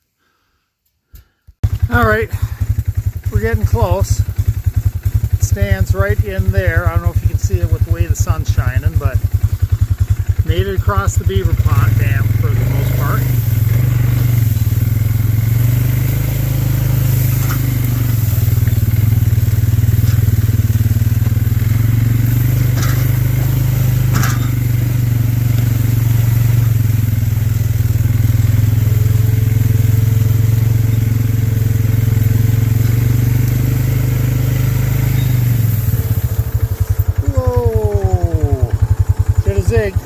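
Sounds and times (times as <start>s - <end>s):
vehicle engine droning: 1.6s - 40.0s.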